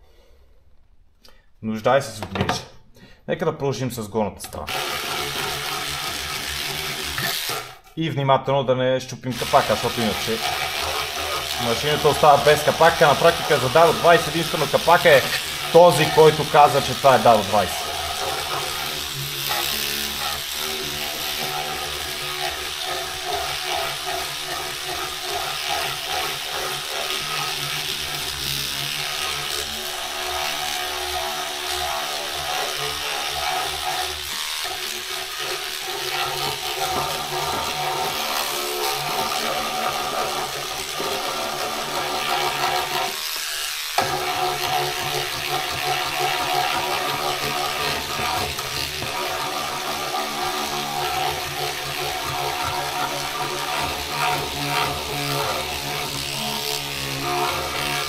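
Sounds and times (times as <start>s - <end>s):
electric brush whirring: 4.6s - 8.0s, 9.3s - 58.0s.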